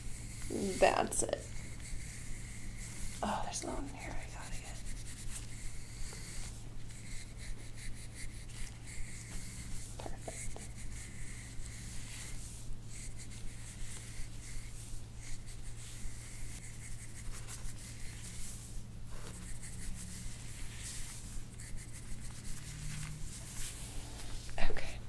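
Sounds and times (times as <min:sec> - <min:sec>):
low steady hum: 0:00.0 - 0:25.0
hands rubbing skin and hair: 0:00.4 - 0:24.6.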